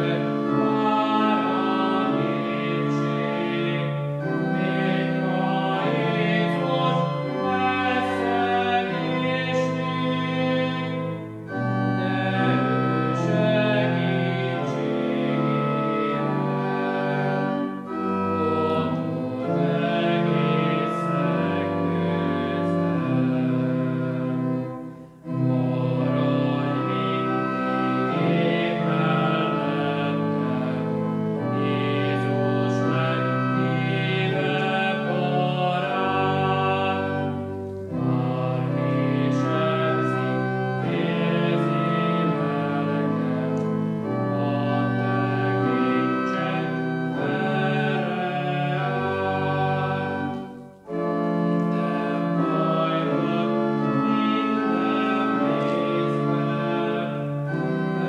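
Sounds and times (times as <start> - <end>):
church organ chords: 0.0 - 58.0
people singing a hymn: 0.0 - 58.0.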